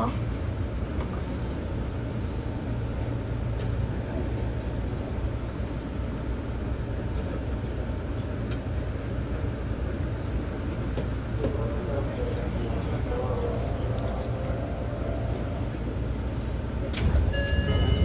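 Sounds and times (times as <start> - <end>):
train interior low rumble: 0.0 - 18.0.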